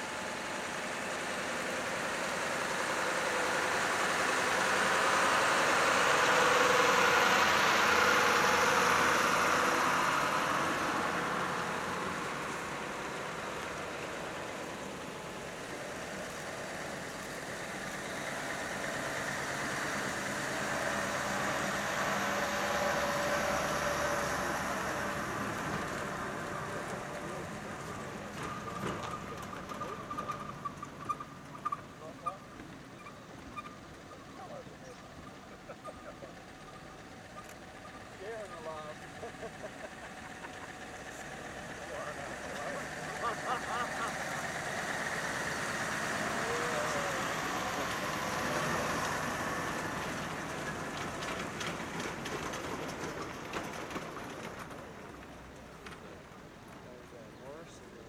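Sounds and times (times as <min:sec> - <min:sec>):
diesel trucks driving past: 0:00.0 - 0:58.0.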